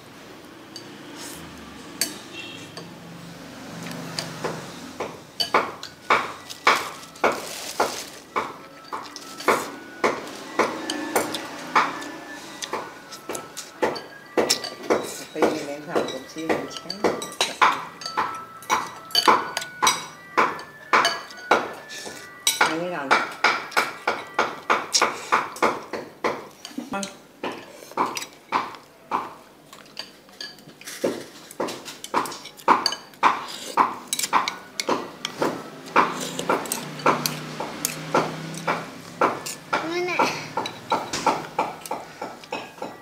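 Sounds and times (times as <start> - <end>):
cutlery clinking on ceramic bowl: 5.4 - 39.9, 40.5 - 43.0.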